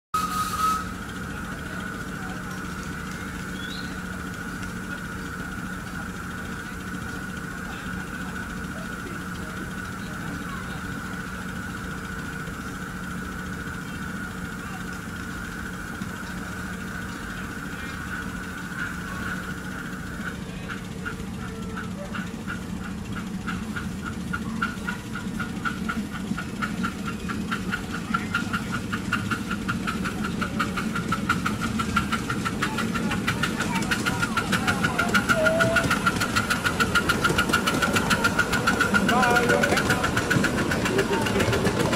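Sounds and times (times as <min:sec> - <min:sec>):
locomotive engine idling hum: 0:00.2 - 0:41.9.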